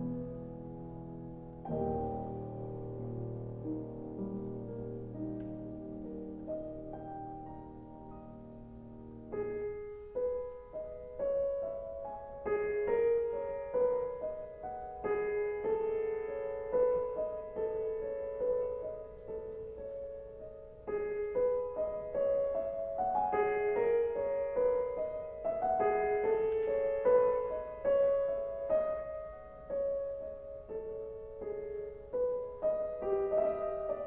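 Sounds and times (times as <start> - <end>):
solo piano classical piece: 0.0 - 34.0.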